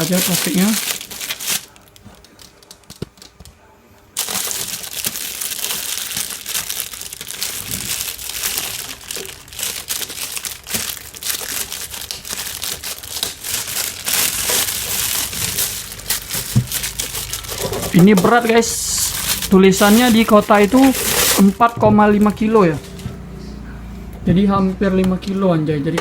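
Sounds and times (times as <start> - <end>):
plastic wrapping crinkling: 0.0 - 23.4.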